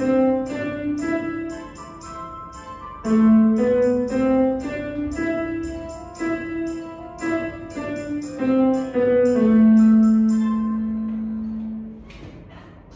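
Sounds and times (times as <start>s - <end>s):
light ticking beat: 0.0s - 11.2s
digital piano melody: 0.0s - 12.2s.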